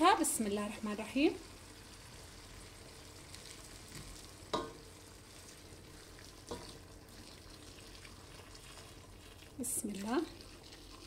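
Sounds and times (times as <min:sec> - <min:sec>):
onion frying in a pot: 0:00.0 - 0:11.0.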